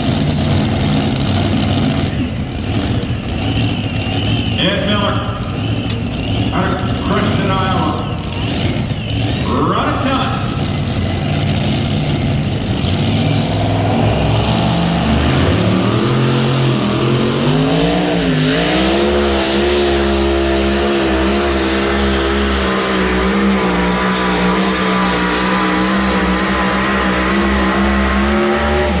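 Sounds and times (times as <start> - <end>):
truck engine at full throttle: 0.0 - 29.0.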